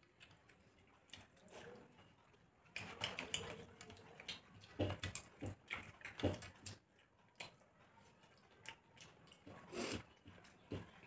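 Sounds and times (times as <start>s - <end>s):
people chewing and lip smacking: 0.0s - 11.0s.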